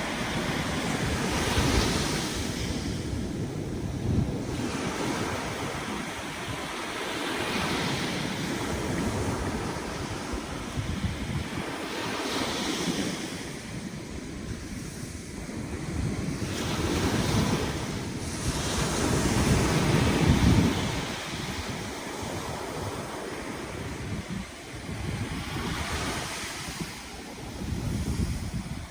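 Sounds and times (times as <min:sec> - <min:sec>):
ocean waves breaking: 0:00.0 - 0:28.9
wind buffeting microphone: 0:00.0 - 0:28.9.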